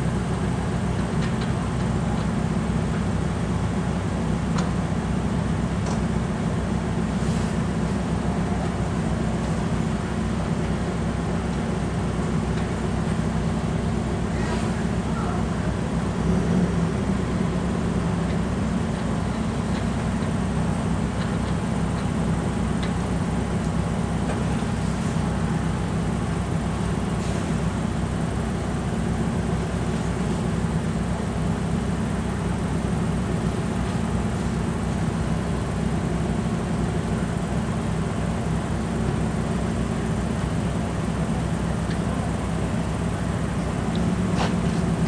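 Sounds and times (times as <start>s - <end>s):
car engines idling: 0.0s - 45.0s.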